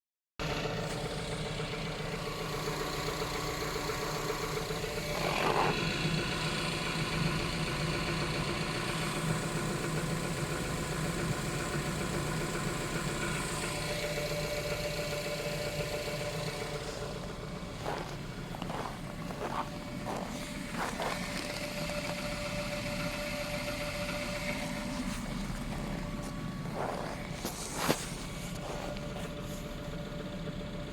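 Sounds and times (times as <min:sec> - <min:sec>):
engine idling with a knock: 0:00.4 - 0:30.9.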